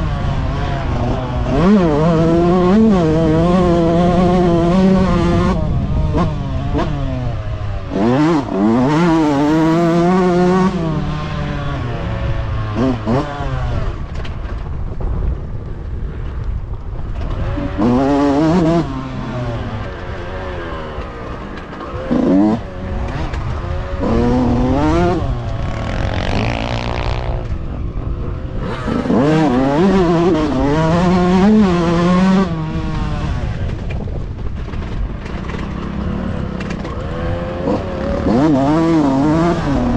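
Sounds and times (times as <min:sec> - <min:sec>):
motocross bikes revving: 0:00.0 - 0:14.1, 0:17.3 - 0:33.8, 0:34.7 - 0:39.9.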